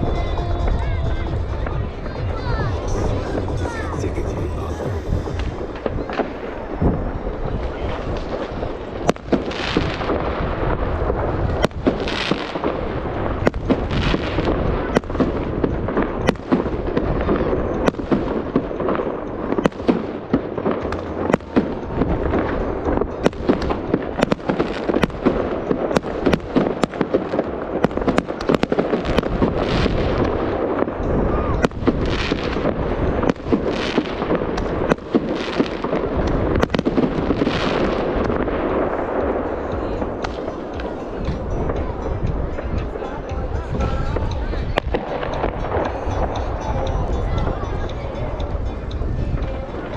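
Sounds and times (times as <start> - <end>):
continuous rumble: 0.0 - 49.9
fireworks bangs: 0.0 - 49.9
fireworks crackle: 0.0 - 49.9.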